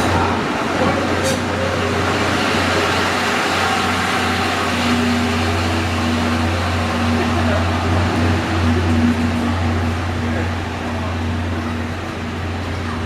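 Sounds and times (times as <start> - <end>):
rushing noise: 0.0 - 13.0.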